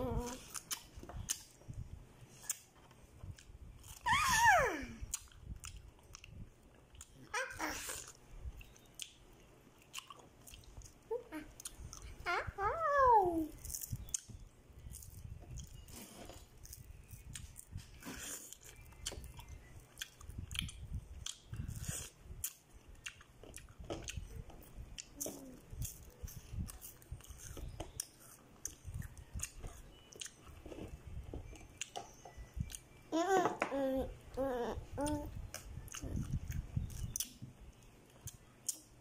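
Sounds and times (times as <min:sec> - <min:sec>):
person chewing fruit: 0:05.0 - 0:12.2, 0:13.6 - 0:33.0, 0:34.3 - 0:39.0.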